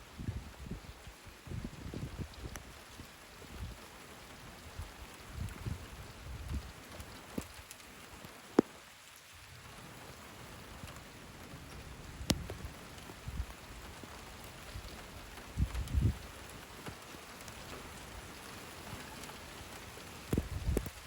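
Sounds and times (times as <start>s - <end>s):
steady rain falling: 0.0s - 21.0s
sharp raindrops striking close: 0.1s - 21.0s.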